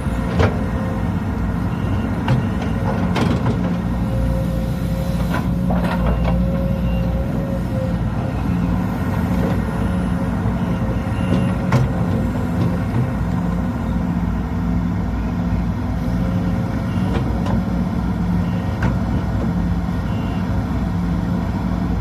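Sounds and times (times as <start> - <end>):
excavator diesel engine hum: 0.0 - 22.0.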